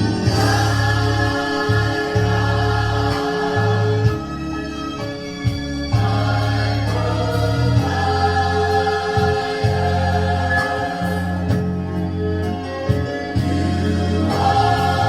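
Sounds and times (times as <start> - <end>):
choir singing: 0.0 - 15.0
instrumental backing: 0.0 - 15.0.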